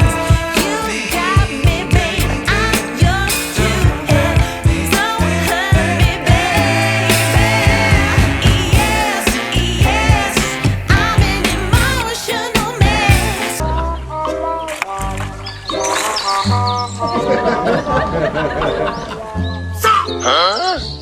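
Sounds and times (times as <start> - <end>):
pop music with female vocal: 0.0 - 20.6.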